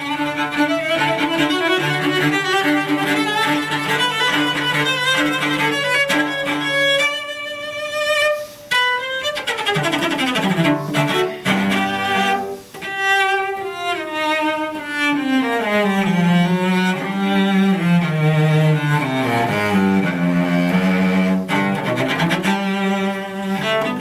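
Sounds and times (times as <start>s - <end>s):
bowed cello: 0.0s - 24.0s.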